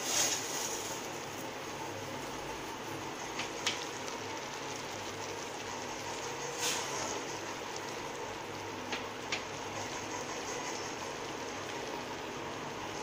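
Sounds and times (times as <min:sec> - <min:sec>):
food simmering and bubbling: 0:00.0 - 0:13.0.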